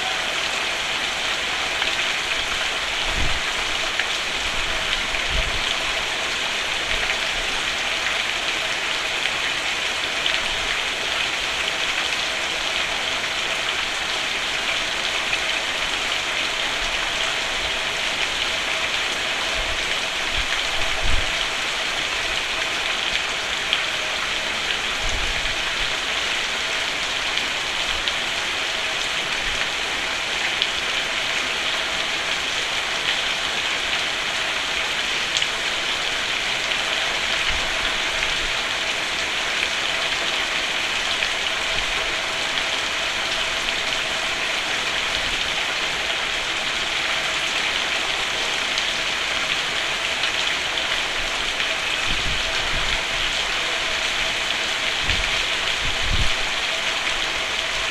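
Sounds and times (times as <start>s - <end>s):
rain falling on a roof: 0.0s - 57.9s.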